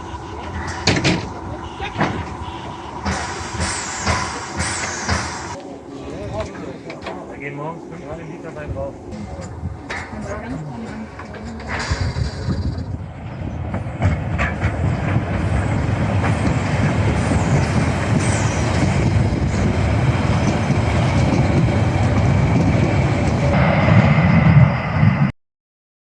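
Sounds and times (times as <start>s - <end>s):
steam train rolling on rails: 0.0s - 25.3s.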